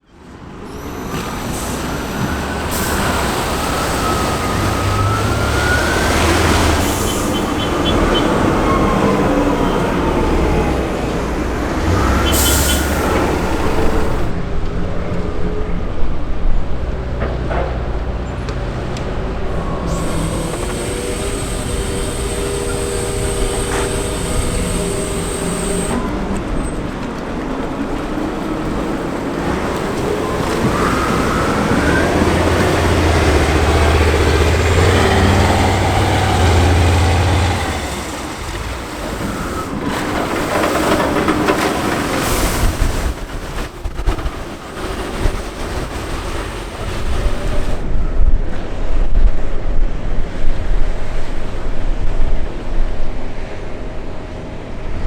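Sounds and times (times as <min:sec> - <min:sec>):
heavy vehicle engines whining: 0:00.0 - 0:48.8.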